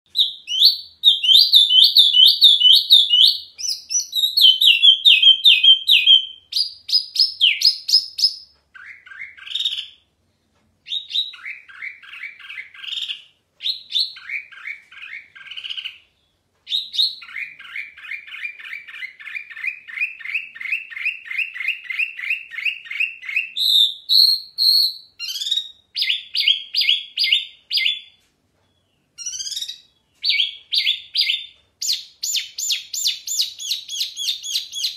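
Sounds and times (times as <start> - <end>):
songbird singing: 0.1 - 10.1, 10.8 - 34.9.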